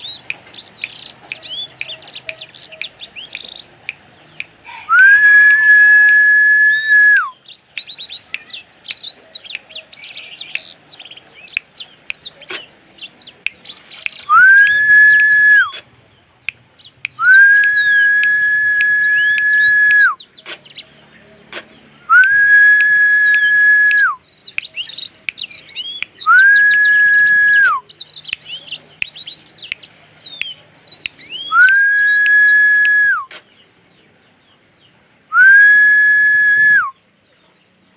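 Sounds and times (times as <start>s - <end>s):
songbird chirping and trilling: 0.0s - 37.9s.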